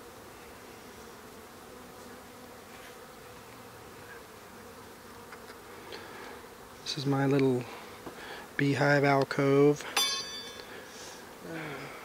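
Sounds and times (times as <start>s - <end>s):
honey bees droning: 0.0s - 12.0s.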